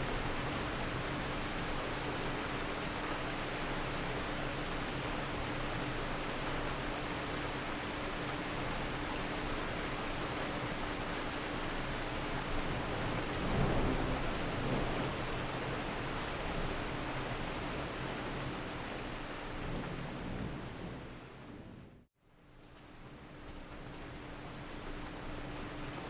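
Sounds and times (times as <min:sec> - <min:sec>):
heavy rain: 0:00.0 - 0:22.1.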